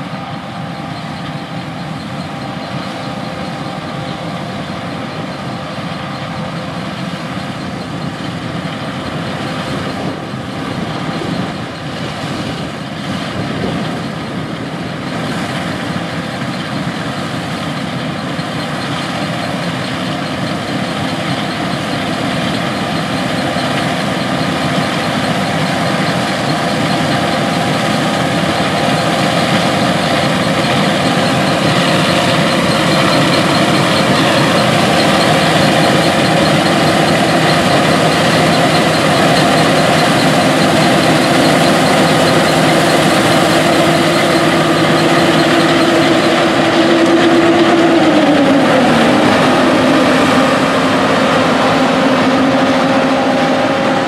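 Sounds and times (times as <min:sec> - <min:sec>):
combine harvester droning: 0:00.0 - 0:54.0.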